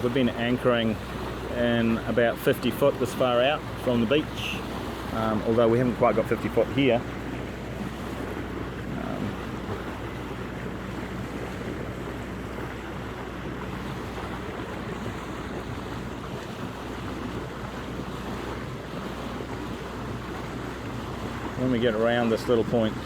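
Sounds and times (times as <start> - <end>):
motor boat engine droning: 0.0 - 23.0
water rushing along hull: 0.0 - 23.0.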